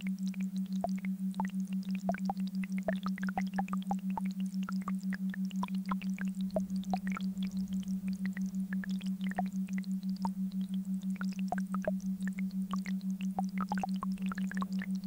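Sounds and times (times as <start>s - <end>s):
throbbing low synthetic hum: 0.0s - 15.0s.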